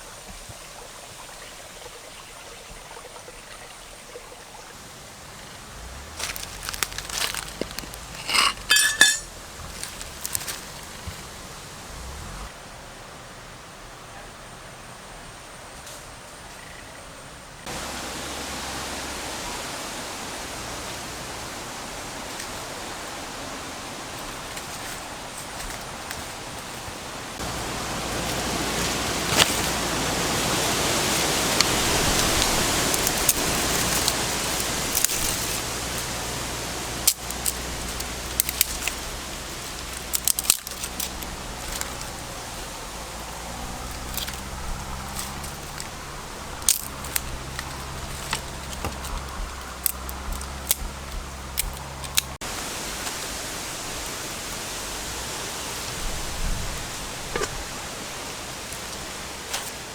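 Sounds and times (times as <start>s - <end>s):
oil popping and crackling: 4.7s - 12.5s, 17.7s - 59.9s.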